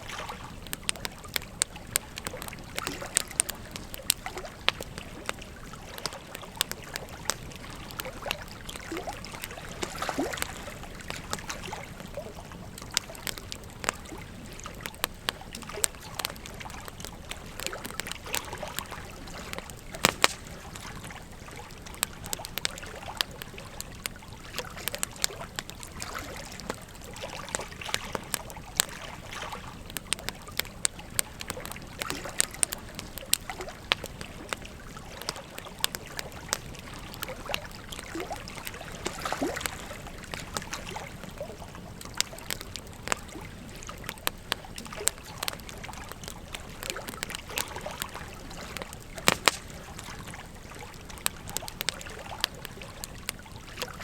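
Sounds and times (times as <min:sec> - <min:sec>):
flowing river water: 0:00.0 - 0:54.0
wood fire crackling and popping: 0:00.0 - 0:54.0.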